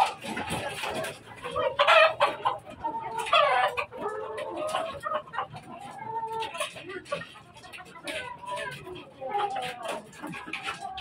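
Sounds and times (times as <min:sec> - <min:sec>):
chickens clucking and calling: 0:00.0 - 0:11.0.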